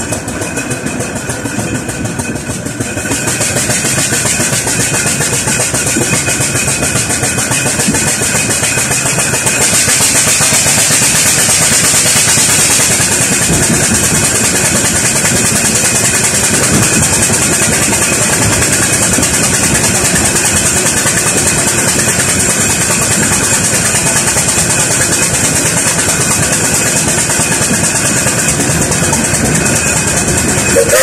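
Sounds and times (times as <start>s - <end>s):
steam tractor clattering: 0.0s - 31.0s
steam hiss: 2.7s - 31.0s.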